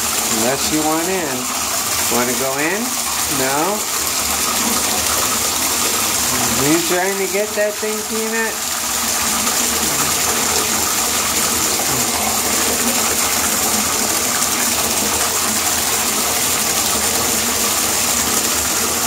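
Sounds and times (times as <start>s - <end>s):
water pouring into bathtub: 0.0s - 19.0s.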